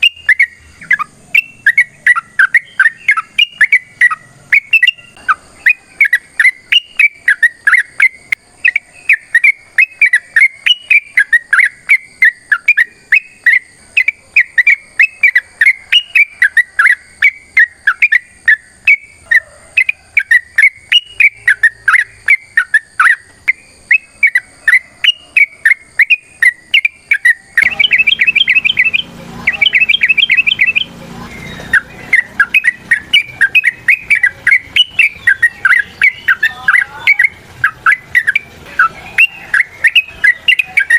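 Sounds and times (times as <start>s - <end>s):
background noise: 0.0s - 40.9s
bird chirping: 0.0s - 40.9s
bird trills: 0.0s - 40.9s.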